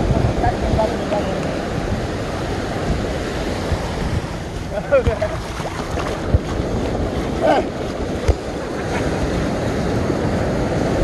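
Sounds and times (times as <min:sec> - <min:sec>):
small waves washing onto beach: 0:00.0 - 0:11.0
wind buffeting microphone: 0:00.0 - 0:11.0.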